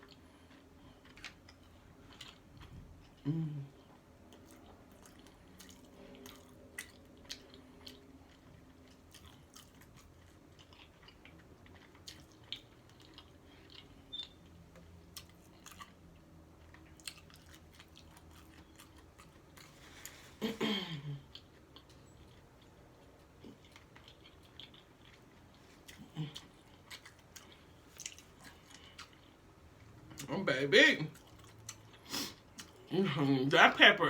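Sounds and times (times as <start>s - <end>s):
chewing and biting food: 0.0s - 20.3s, 21.2s - 30.3s, 31.1s - 32.9s.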